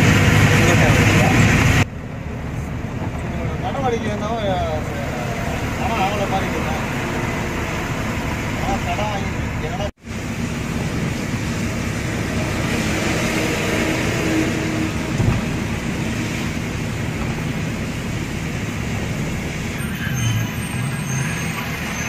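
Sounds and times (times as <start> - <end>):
tyres hissing on wet road: 0.0 - 1.9, 4.6 - 22.0
truck engine droning: 0.0 - 22.0.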